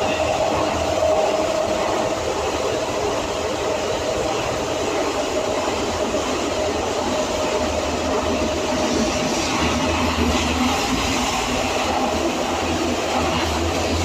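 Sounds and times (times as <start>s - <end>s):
train rolling through tunnel: 0.0s - 14.0s
train whine: 0.0s - 14.0s.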